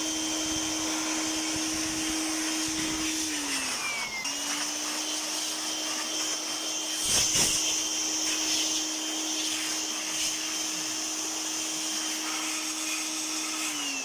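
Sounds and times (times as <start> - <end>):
electric blower motor whining: 0.0 - 14.0.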